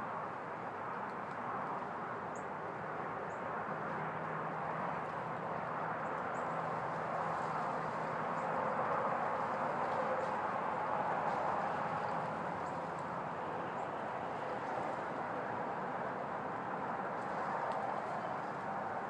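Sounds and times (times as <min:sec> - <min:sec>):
rushing outdoor background noise: 0:00.0 - 0:19.0.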